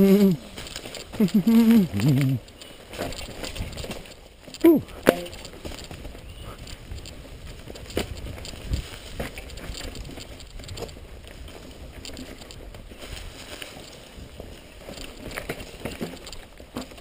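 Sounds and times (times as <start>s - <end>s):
bike knocking and rattling over bumps: 0.0s - 17.0s
bike tyres rolling over leaves and dirt: 0.0s - 17.0s.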